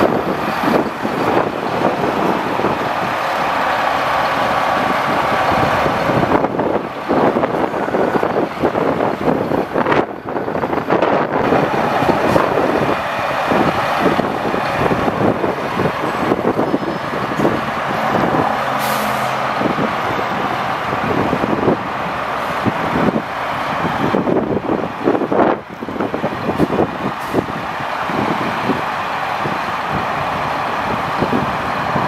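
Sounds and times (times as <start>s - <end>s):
diesel engine running steadily: 0.0s - 32.0s.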